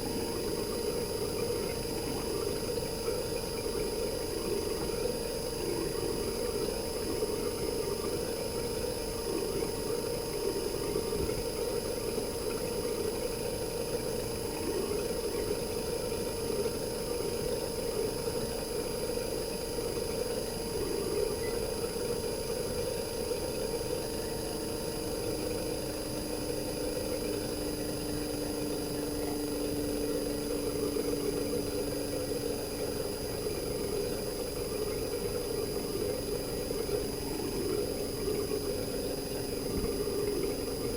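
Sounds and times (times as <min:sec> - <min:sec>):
compressor humming: 0:00.0 - 0:40.9
faint high whine: 0:00.0 - 0:40.9.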